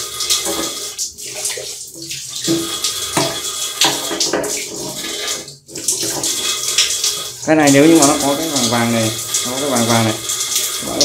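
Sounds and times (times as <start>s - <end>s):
water running out: 0.0s - 11.0s.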